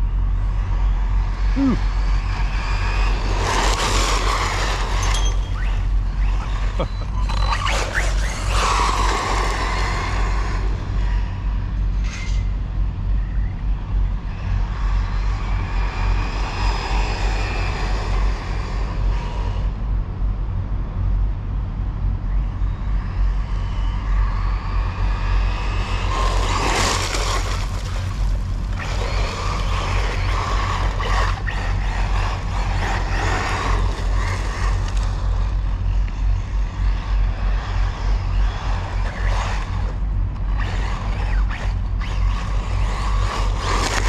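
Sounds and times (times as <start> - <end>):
rc car electric motor whining: 0.0 - 12.6, 14.3 - 19.8, 22.5 - 44.0
low rumble: 0.0 - 44.0.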